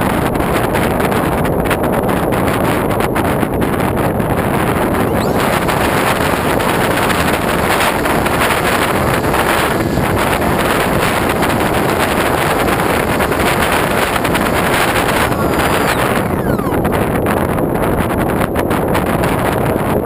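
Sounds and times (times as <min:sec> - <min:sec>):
wind rushing over camera: 0:01.1 - 0:20.0.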